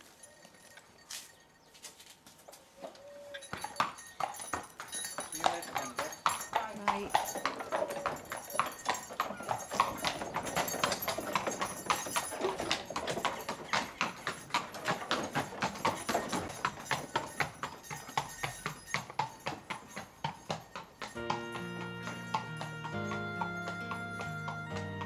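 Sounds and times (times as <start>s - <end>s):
horse hooves on pavement: 0.0s - 25.0s.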